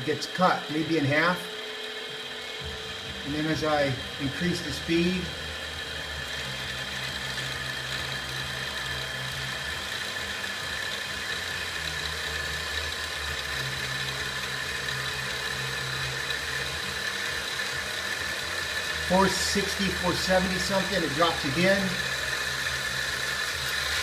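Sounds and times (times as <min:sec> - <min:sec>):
lathe motor whine and hum: 0:00.0 - 0:24.0.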